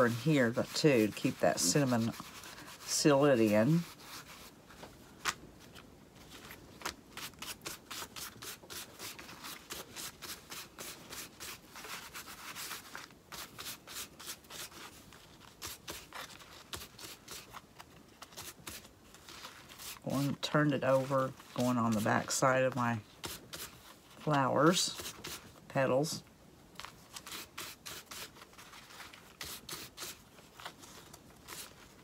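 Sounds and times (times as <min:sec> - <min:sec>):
small brush scrubbing fabric: 0:00.0 - 0:04.6, 0:07.1 - 0:25.9, 0:27.0 - 0:32.0.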